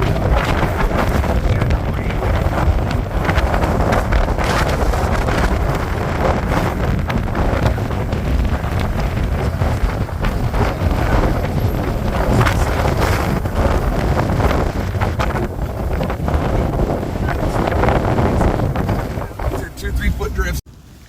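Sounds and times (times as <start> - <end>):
strong wind buffeting microphone: 0.0 - 21.0
wind gust thuds: 0.0 - 21.0.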